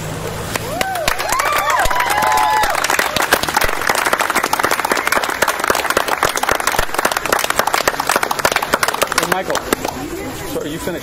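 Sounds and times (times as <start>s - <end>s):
crowd applauding: 0.5s - 10.1s.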